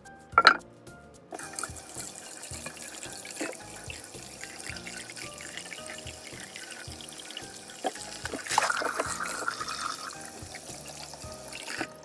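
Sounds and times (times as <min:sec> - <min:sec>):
tap water splashing into steel bowl: 0:01.4 - 0:12.0.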